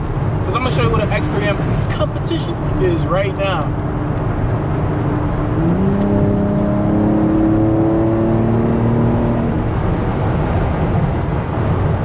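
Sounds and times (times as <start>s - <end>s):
car engine under full throttle: 0.0s - 12.0s
road noise: 0.0s - 12.0s.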